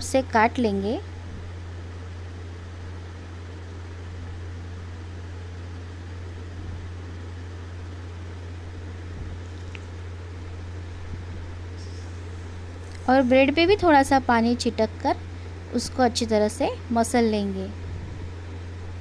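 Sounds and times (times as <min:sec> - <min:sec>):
background hiss: 0:00.0 - 0:19.0
low hum: 0:00.0 - 0:19.0.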